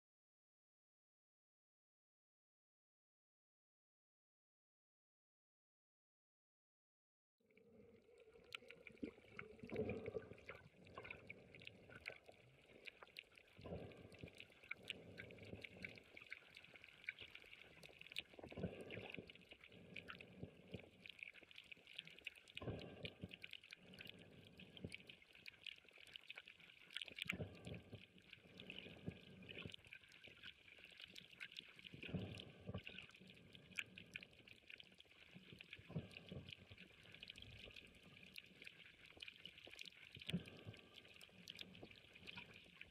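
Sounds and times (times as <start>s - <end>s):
dull water swells: 7.4s - 42.9s
fine underwater crackle: 7.5s - 42.9s.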